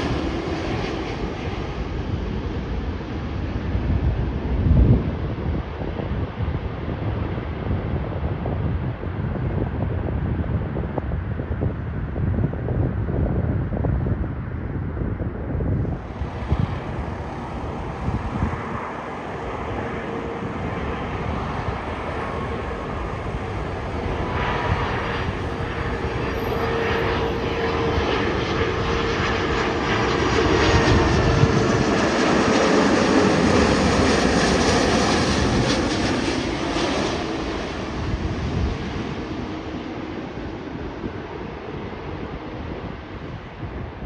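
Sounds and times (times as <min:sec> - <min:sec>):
jet airliner engines whining: 0:00.0 - 0:44.0.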